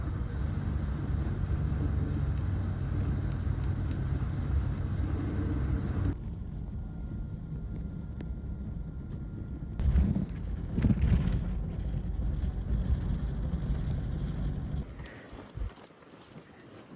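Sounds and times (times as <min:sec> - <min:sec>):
wind buffeting microphone: 0:00.0 - 0:15.8
low engine hum: 0:00.0 - 0:16.6.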